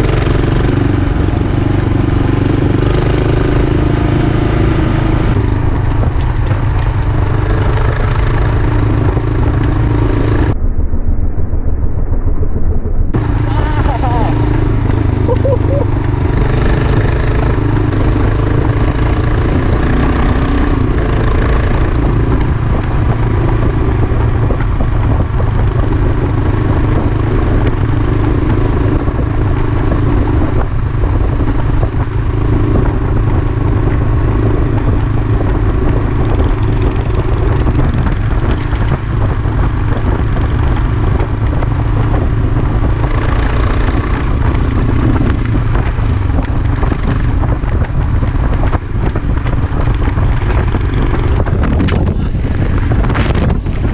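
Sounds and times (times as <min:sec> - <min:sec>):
motorcycle engine running: 0:00.0 - 0:10.7, 0:12.8 - 0:53.9
wind rumble on microphone: 0:00.0 - 0:53.9.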